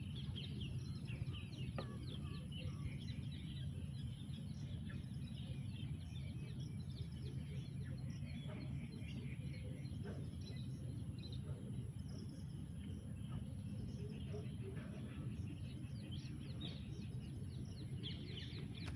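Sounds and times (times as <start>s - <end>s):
birds chirping and calling: 0.0s - 18.9s.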